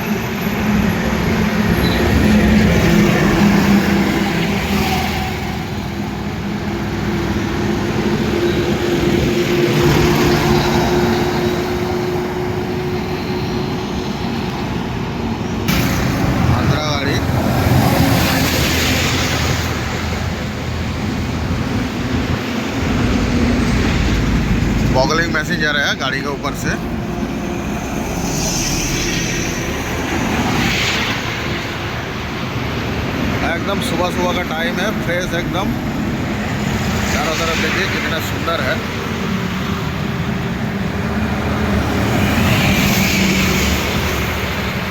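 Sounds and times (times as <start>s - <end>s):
engine drone: 0.0s - 44.9s
highway traffic roar: 0.0s - 44.9s
wind: 0.0s - 44.9s.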